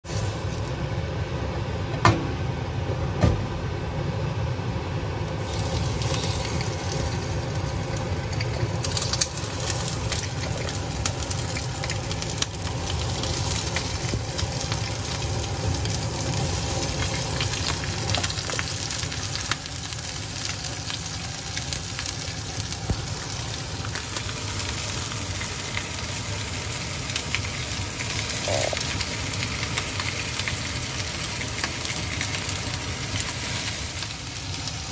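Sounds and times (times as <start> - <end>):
prawns sizzling in hot oil: 0.0 - 0.8, 5.3 - 34.9.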